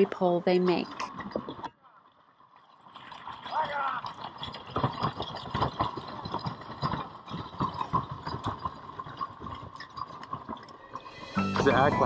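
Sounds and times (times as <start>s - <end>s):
horse hooves: 0.0s - 12.0s
wagon wheels clattering: 0.0s - 12.0s.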